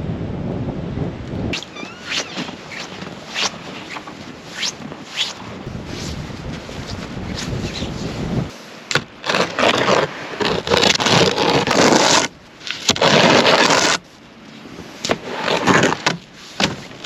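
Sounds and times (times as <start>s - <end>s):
scraping: 1.6s - 8.3s, 8.9s - 14.1s, 15.0s - 17.0s.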